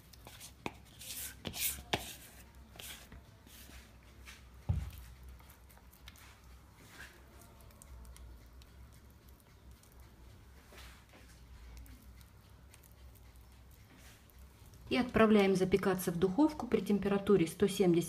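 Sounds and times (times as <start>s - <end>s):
spatula scraping batter: 0.0s - 16.8s.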